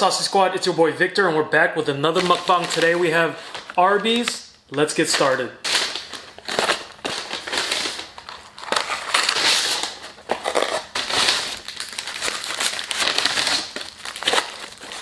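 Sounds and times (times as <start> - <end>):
paper packaging crinkling: 2.0 - 15.0.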